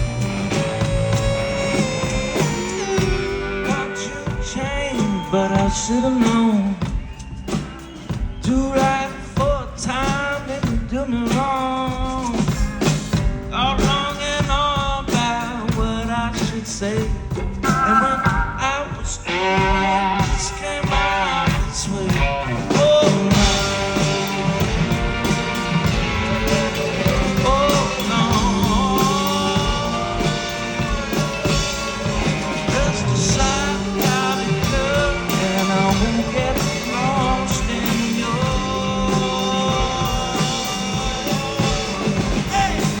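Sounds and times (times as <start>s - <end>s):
person singing: 0.0s - 7.6s, 13.5s - 43.0s
bass: 0.0s - 43.0s
drums: 0.0s - 43.0s
guitar: 0.0s - 43.0s.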